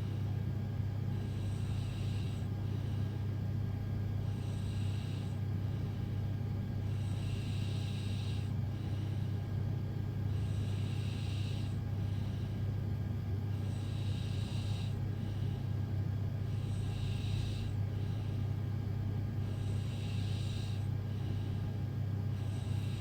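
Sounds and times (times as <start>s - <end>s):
steady low hum: 0.0s - 23.0s
girl snoring softly: 0.9s - 23.0s.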